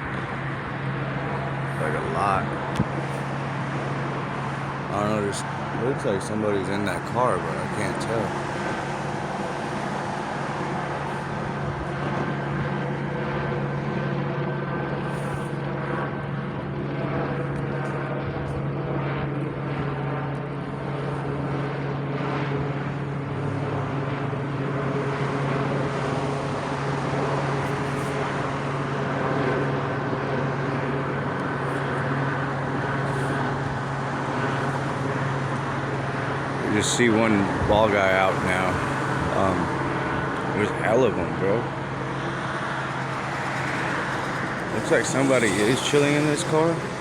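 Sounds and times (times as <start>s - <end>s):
steady engine drone: 0.0s - 47.0s.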